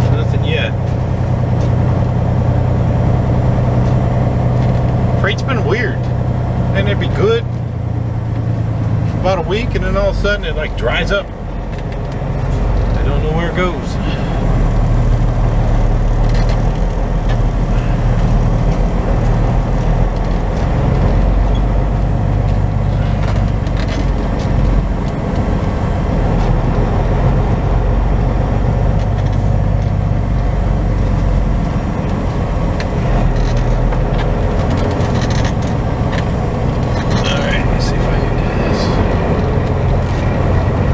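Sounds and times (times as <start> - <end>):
truck diesel engine humming: 0.0 - 40.9.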